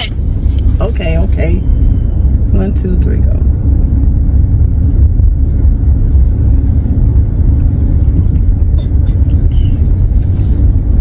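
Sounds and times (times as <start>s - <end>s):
car rumble inside cabin: 0.0s - 11.0s.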